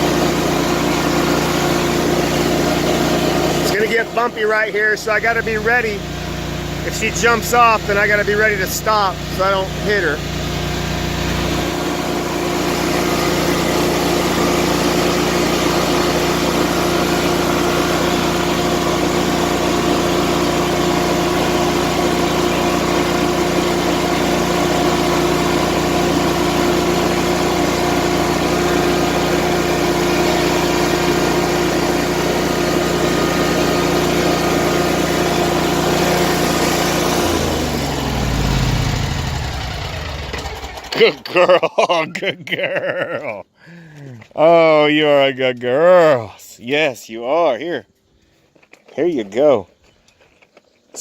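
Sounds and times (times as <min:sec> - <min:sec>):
lawn mower engine running: 0:00.0 - 0:45.2.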